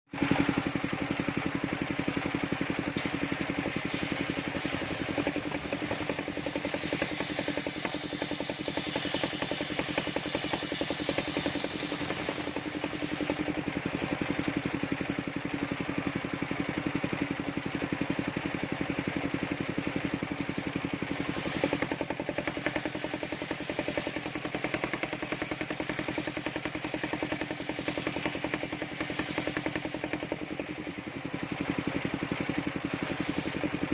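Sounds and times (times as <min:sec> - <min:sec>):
sawmill engine running: 0:00.1 - 0:33.9.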